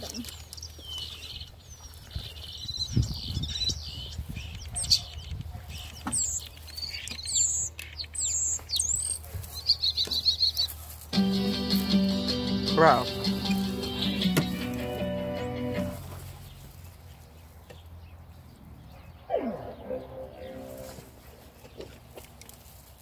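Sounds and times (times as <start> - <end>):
songbird chirping and trilling: 0.0 - 10.8, 11.7 - 21.9.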